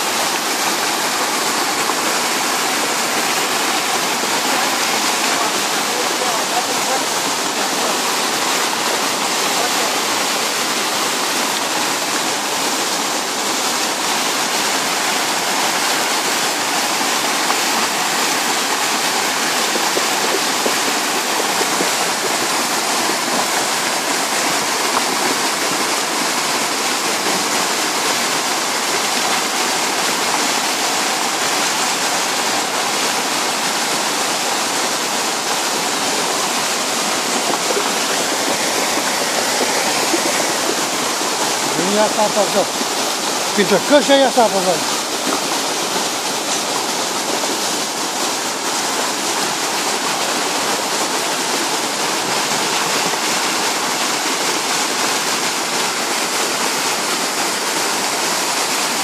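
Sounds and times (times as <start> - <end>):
floodwater rushing: 0.0 - 59.0.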